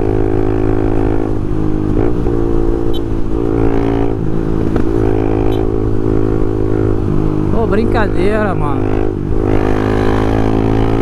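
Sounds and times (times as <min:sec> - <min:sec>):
motorcycle engine humming: 0:00.0 - 0:11.0.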